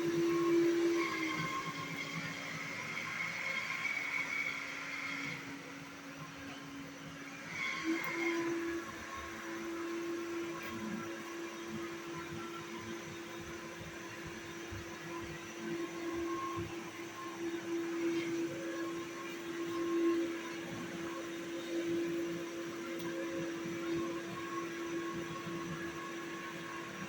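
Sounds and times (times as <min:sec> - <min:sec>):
vacuum cleaner motor whirring: 0:00.0 - 0:27.0.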